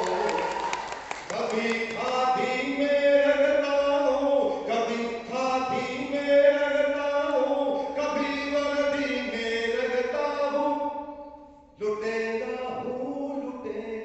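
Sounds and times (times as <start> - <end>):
man chanting melodic recitation: 1.3 - 14.0.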